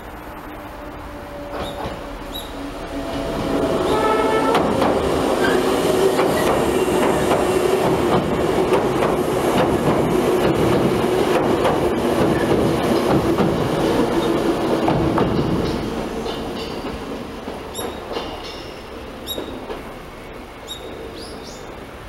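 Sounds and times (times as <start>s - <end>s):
train hum: 0.0s - 22.0s
train wheels clattering on rails: 1.5s - 21.7s.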